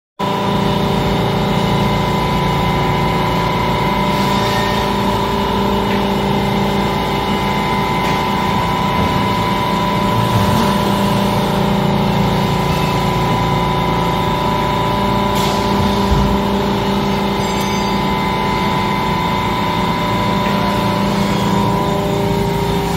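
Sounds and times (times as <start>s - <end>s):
machining center spindle hum and whine: 0.2s - 22.9s.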